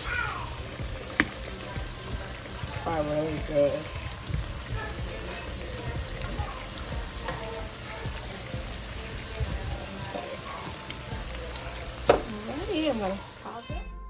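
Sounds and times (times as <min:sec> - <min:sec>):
spatula stirring: 0:00.0 - 0:13.3
oil sizzling in a skillet: 0:00.0 - 0:13.7.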